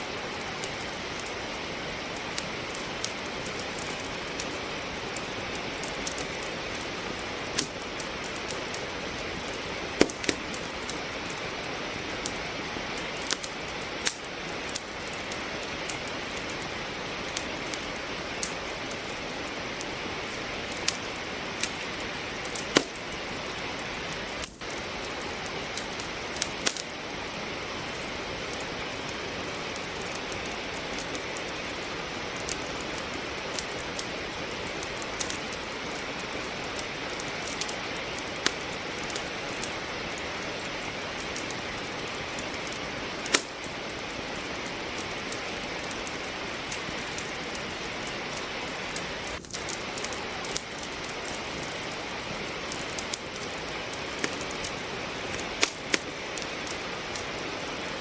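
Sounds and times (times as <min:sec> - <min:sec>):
firewood crackling in a fireplace: 0:00.0 - 0:58.0
steady rain falling: 0:00.0 - 0:58.0.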